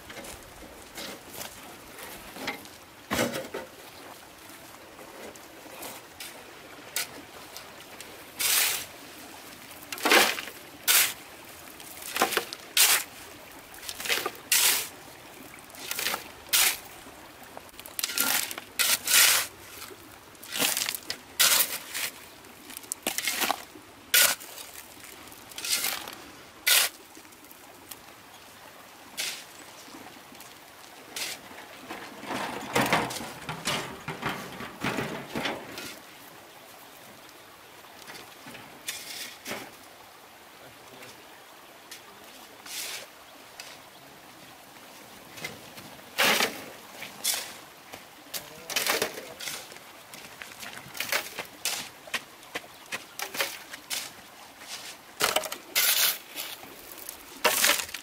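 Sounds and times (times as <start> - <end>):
water splashing and pouring: 0.0 - 28.0, 29.1 - 36.3, 38.0 - 39.9, 45.4 - 58.0
steady low hiss: 0.0 - 58.0.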